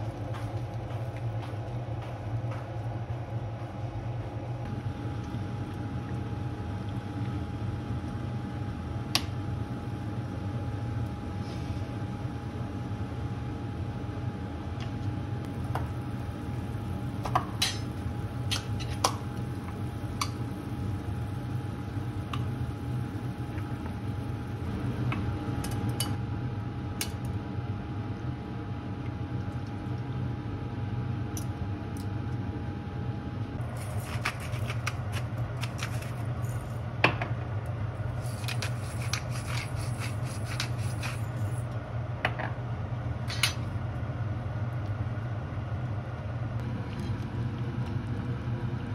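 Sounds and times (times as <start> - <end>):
low kitchen hum: 0.0 - 48.9.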